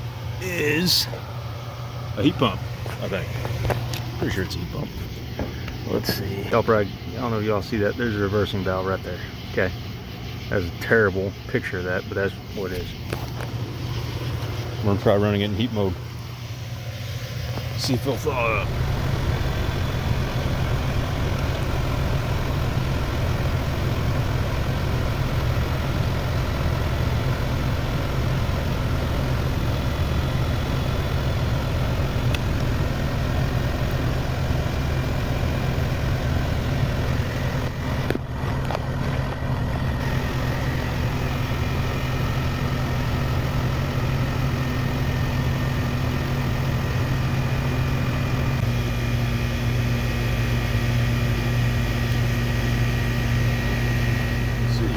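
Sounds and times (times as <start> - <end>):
heat pump humming: 0.0 - 54.9.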